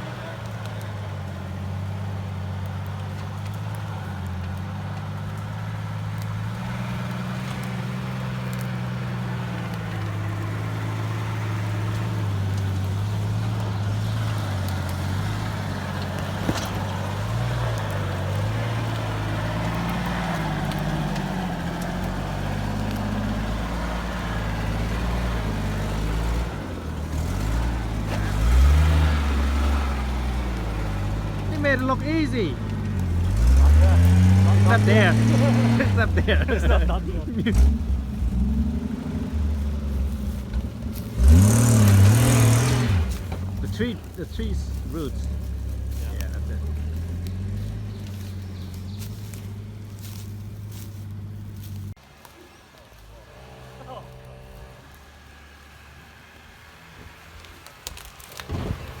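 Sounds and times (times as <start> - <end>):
off-road vehicle engine at low revs: 0.0 - 59.0.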